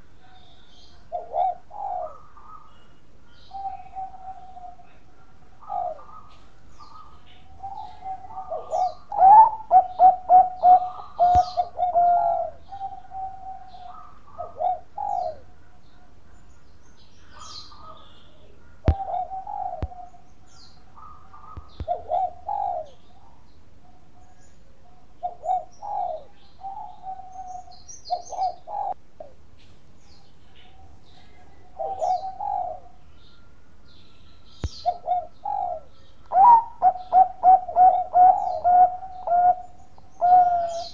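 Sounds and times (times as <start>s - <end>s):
dove cooing: 0.0s - 16.6s, 17.2s - 29.4s, 30.1s - 33.7s, 34.6s - 40.9s.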